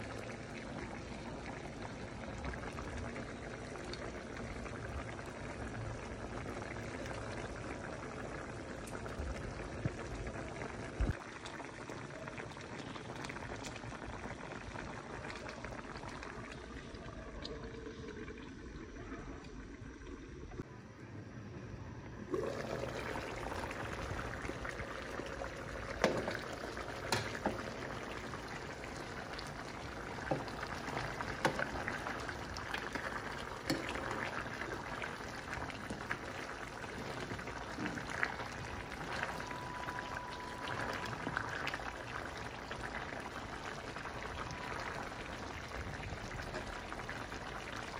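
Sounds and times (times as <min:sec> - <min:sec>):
curry sizzling and bubbling: 0:00.0 - 0:20.7, 0:22.2 - 0:47.9.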